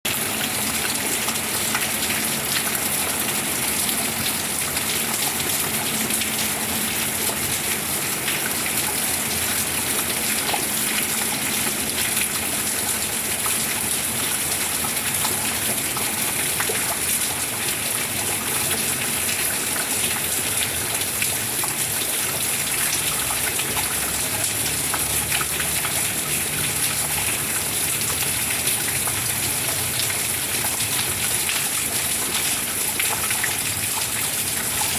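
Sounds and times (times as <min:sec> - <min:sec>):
steady rain falling: 0:00.1 - 0:34.9
raindrops ticking: 0:03.8 - 0:34.9.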